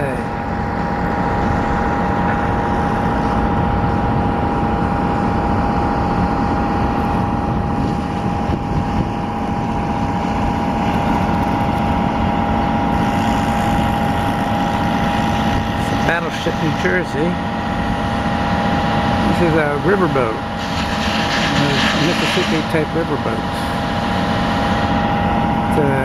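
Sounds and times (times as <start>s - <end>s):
boat engine drone: 0.0s - 26.0s.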